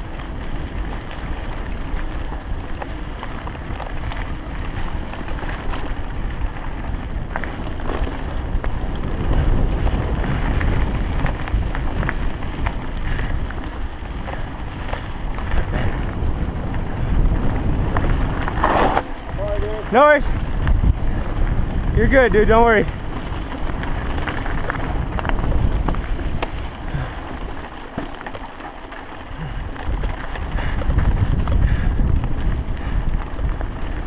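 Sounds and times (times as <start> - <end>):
bike clicks and rattles: 0.0 - 34.0
wind buffeting microphone: 0.0 - 34.0.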